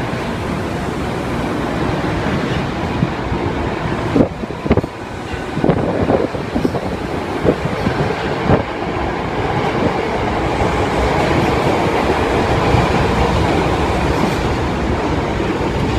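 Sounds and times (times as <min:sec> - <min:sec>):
subway train running noise: 0:00.0 - 0:15.9.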